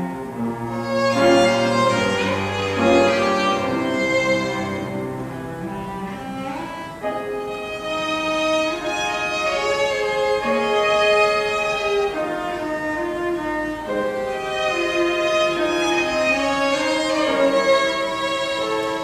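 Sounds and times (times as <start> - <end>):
cello notes: 0.0 - 19.0
violin melody: 0.0 - 19.0.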